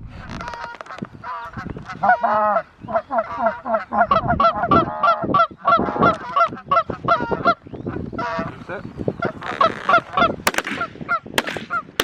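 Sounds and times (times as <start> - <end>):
geese honking: 0.1 - 12.0.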